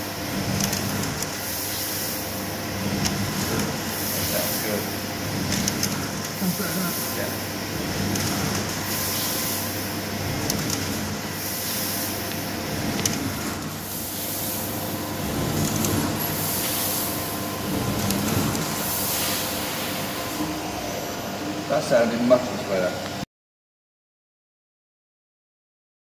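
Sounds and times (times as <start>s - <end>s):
coolant hiss: 0.0s - 23.0s
machine hum: 0.0s - 23.2s.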